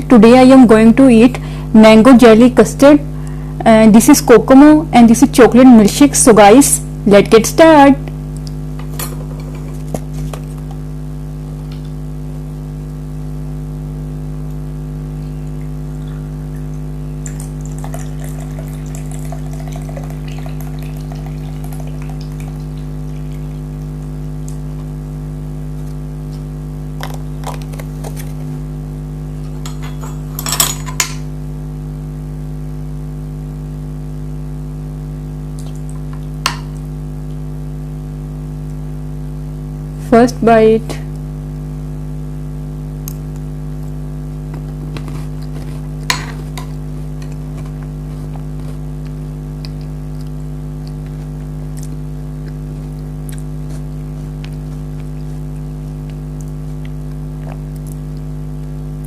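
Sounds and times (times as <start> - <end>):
electrical hum: 0.0 - 59.0.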